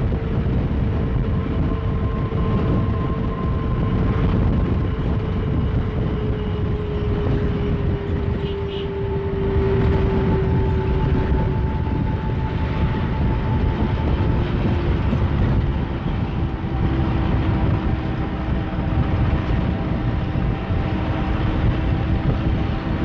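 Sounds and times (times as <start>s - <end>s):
constant whine: 0.0s - 23.0s
vehicle road and engine noise: 0.0s - 23.0s.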